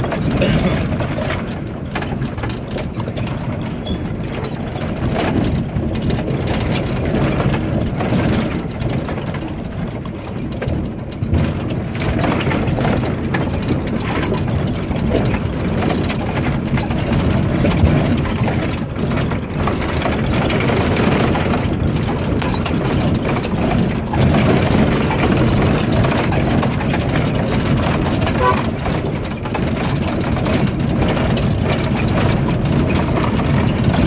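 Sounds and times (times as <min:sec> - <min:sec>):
car body rattling and knocking: 0:00.0 - 0:34.0
car engine running: 0:00.0 - 0:34.0.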